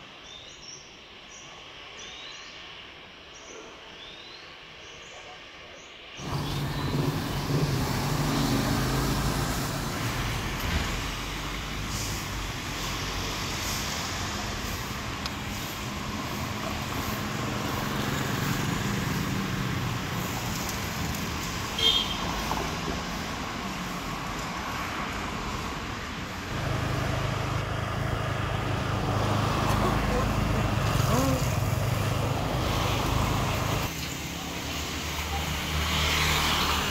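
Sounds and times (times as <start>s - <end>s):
car and motorbike engines: 6.2s - 36.9s.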